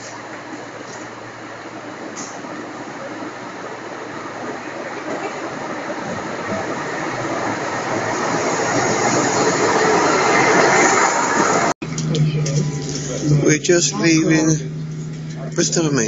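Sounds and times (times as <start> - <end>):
train rushing rumble: 0.0 - 16.0.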